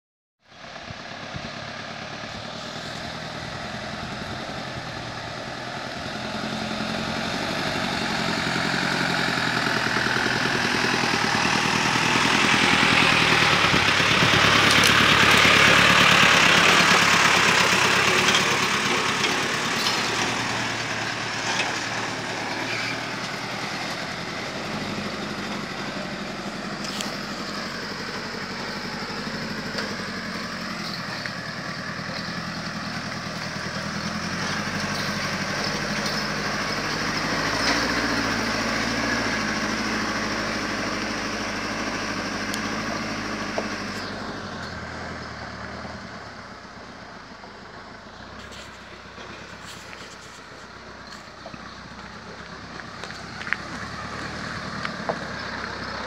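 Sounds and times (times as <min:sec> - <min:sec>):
dump truck engine labouring: 0:00.5 - 0:56.0.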